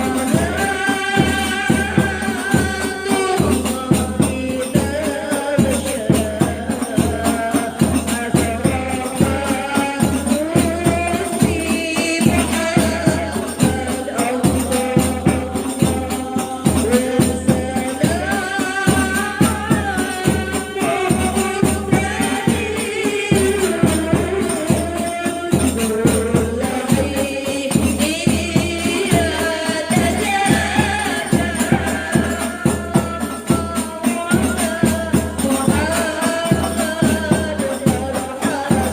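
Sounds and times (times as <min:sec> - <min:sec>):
frame drums drumming: 0:00.0 - 0:38.9
women singing: 0:00.0 - 0:38.9.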